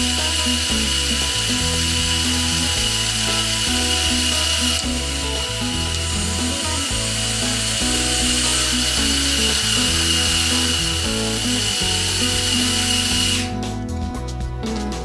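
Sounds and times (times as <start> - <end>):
small electric motor whining: 0.0 - 13.5
background music: 0.0 - 15.0.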